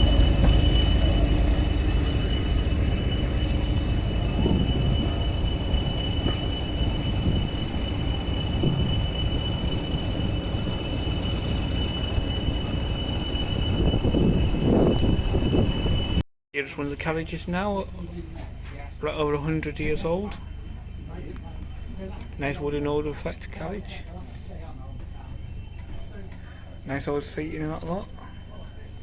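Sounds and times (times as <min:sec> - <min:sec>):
constant high-pitched tone: 0:00.0 - 0:16.2, 0:17.6 - 0:29.0
train low rumble: 0:00.0 - 0:29.0.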